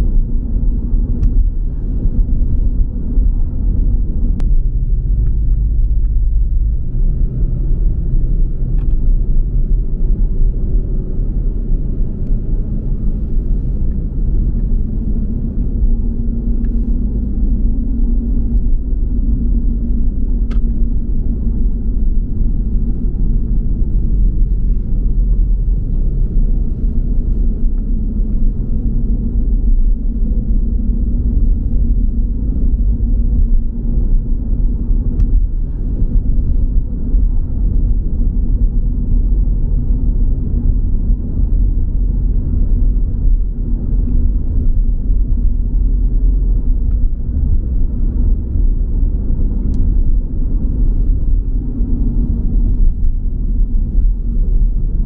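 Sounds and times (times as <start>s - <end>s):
car tyre and engine rumble: 0.0s - 55.0s.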